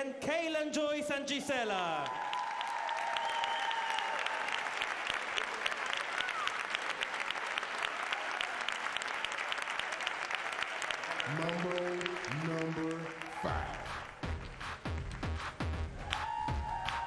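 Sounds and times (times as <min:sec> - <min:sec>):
audience applauding: 0:01.9 - 0:17.0.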